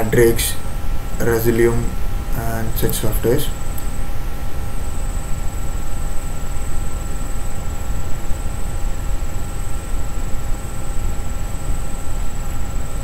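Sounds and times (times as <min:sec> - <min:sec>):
faint constant whines: 0:00.0 - 0:13.0
low rumbling background noise: 0:00.0 - 0:13.0.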